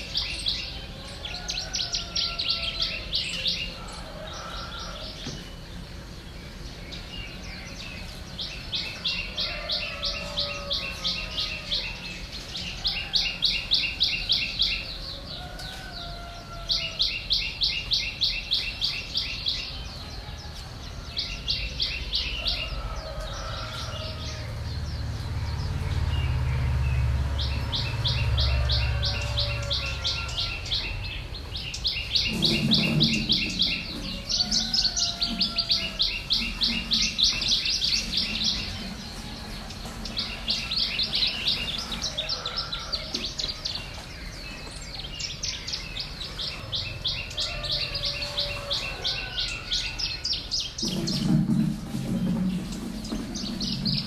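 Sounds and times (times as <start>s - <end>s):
bird chirping in rapid runs: 0.0s - 54.0s.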